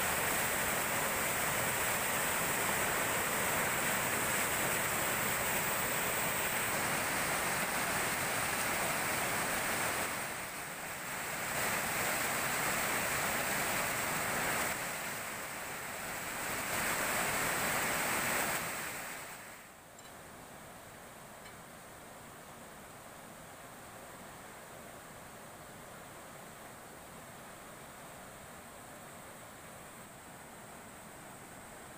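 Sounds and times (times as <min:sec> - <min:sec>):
river water rushing over weir: 0:00.0 - 0:31.9.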